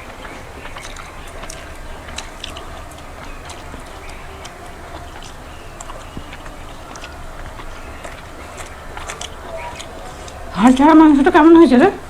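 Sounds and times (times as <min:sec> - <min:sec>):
chewing with mouth clicks: 0:00.0 - 0:12.0
low background hum: 0:00.0 - 0:12.0.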